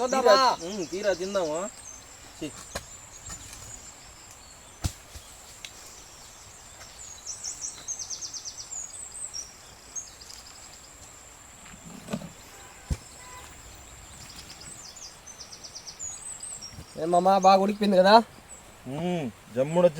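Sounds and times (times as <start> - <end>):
bird chirping trills: 0.0 - 11.1, 11.8 - 19.0.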